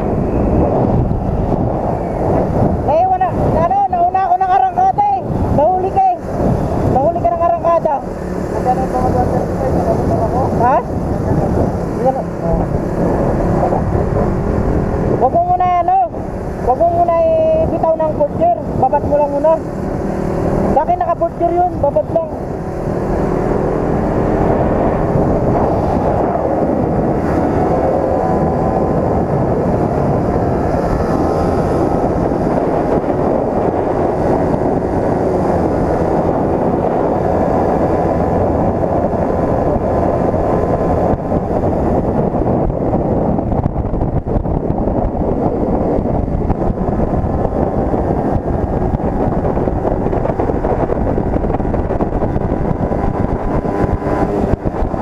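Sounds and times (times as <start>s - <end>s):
wind rushing over microphone: 0.0s - 55.0s
motorcycle engine running: 5.4s - 55.0s.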